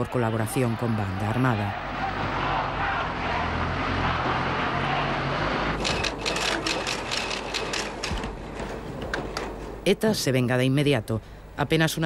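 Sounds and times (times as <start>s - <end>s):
noisy street background: 0.0s - 12.0s.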